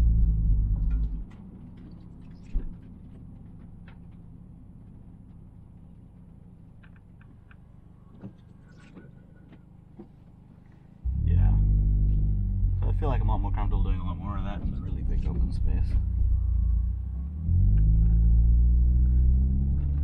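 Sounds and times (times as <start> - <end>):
car engine pulling hard: 0.0 - 20.0.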